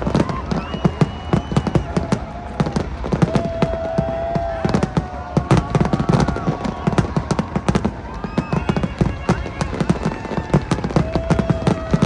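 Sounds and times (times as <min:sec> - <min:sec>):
fireworks bangs and crackles: 0:00.0 - 0:12.0
long steady tones: 0:00.0 - 0:12.0.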